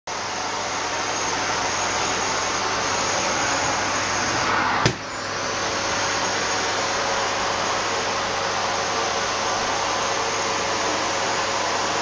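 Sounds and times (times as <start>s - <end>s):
vacuum cleaner running: 0.1s - 12.0s.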